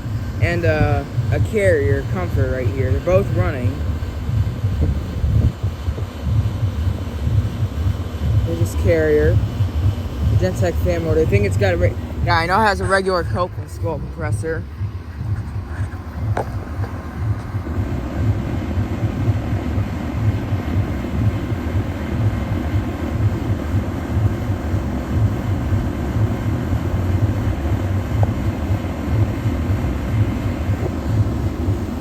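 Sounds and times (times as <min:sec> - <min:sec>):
air conditioner unit humming: 0:00.0 - 0:32.0.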